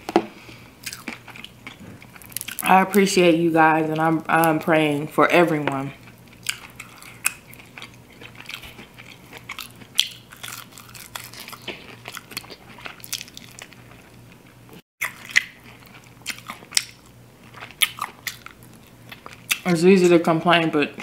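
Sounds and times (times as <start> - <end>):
chewing crunchy food: 0.8 - 3.1, 3.9 - 19.7.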